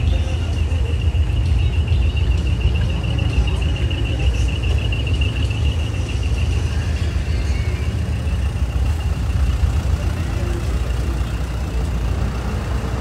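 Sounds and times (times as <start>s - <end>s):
steady high-pitched tone: 0.0s - 12.2s
heavy truck engine rumbling: 0.0s - 13.0s.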